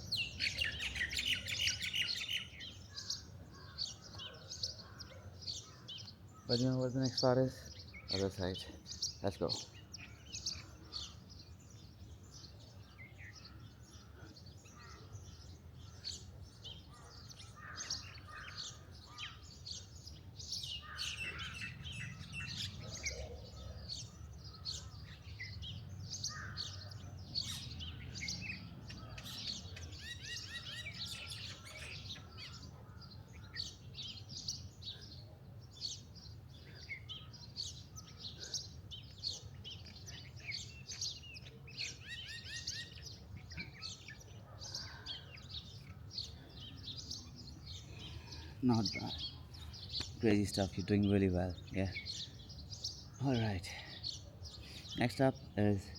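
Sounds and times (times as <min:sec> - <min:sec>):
songbirds chirping and singing: 0:00.0 - 0:55.9.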